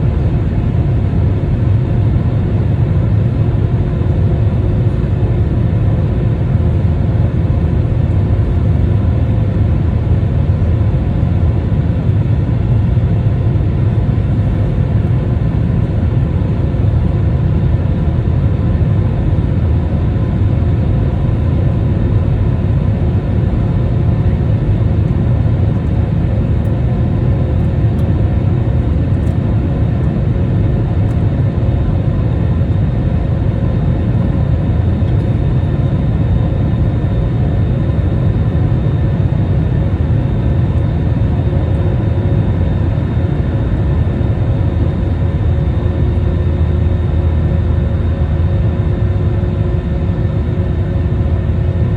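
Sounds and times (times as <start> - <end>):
jet engine cabin rumble: 0.0 - 51.9.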